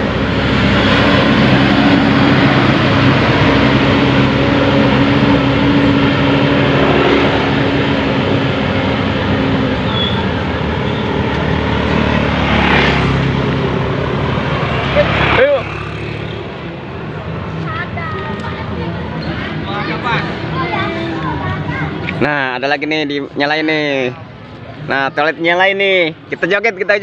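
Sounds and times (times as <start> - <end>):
bus diesel engine droning: 0.0 - 24.8
car passing: 0.0 - 27.0
tyre and traffic noise: 0.0 - 27.0.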